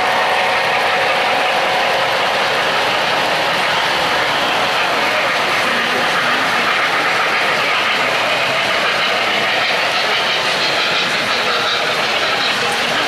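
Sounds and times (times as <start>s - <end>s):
model train wheels rolling on track: 0.0s - 13.0s.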